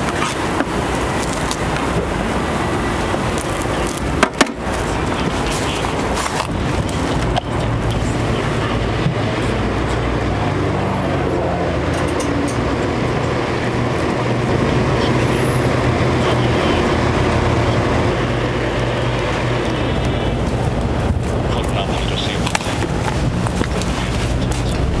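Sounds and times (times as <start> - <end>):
electric fan whirring: 0.0 - 25.0.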